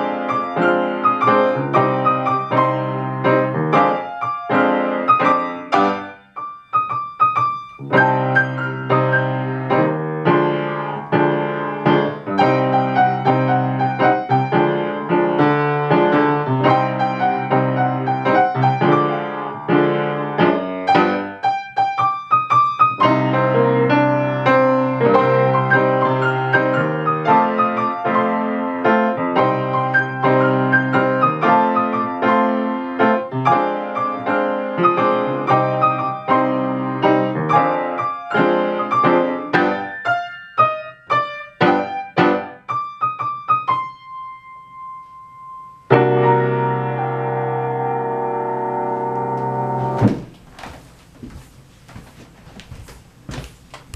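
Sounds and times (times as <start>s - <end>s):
grand piano duet: 0.0s - 50.6s.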